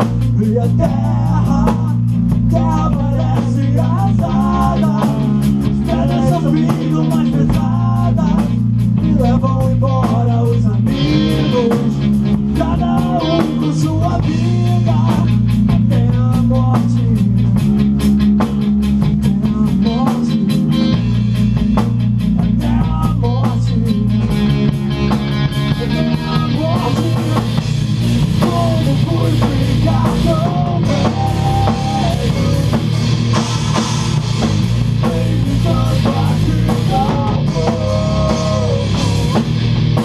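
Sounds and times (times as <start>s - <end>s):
man singing: 0.0s - 17.9s, 19.0s - 21.2s, 22.3s - 24.9s, 25.6s - 39.6s
drum kit fast beat: 0.0s - 40.0s
electric guitar: 0.0s - 40.0s.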